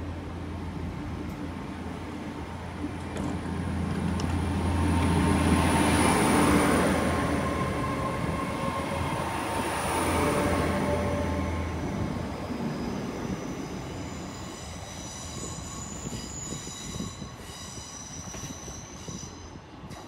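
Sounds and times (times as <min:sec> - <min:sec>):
train diesel engine hum: 0:00.0 - 0:18.7.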